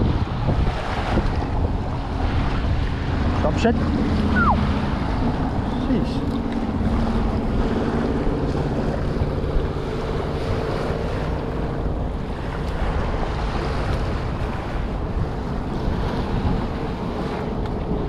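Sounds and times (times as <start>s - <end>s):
small waves washing ashore: 0.0s - 18.0s
wind buffeting microphone: 0.0s - 18.0s.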